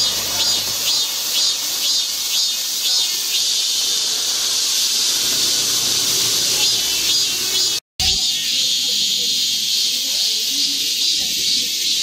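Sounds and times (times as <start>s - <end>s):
cicadas singing: 0.0s - 12.0s.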